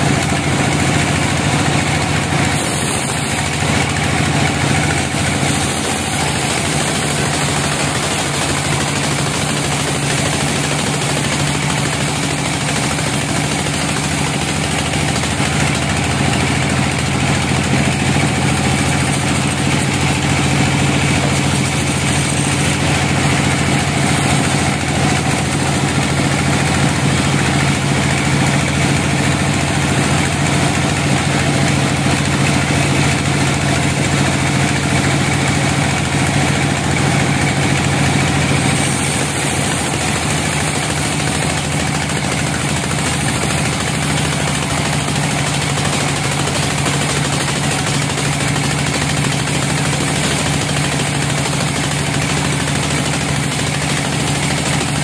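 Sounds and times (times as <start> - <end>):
band saw mill cutting log: 0.0 - 55.0.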